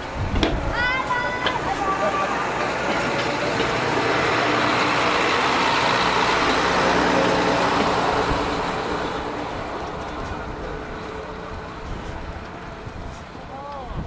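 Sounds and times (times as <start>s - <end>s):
train wheels rolling: 0.0s - 13.5s
diesel train engine running: 0.0s - 13.8s.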